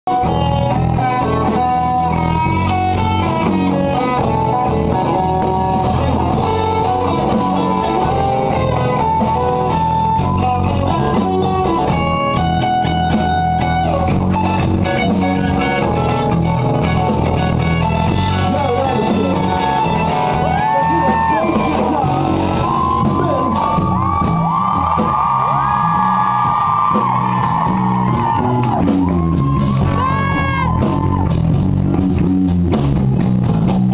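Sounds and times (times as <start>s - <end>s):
rock band playing amplified guitar: 0.1s - 33.9s.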